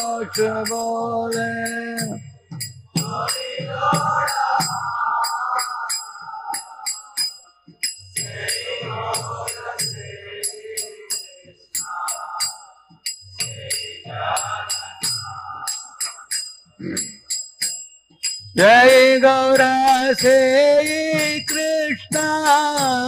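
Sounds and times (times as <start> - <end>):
hand cymbals striking a beat: 0.0 - 23.0.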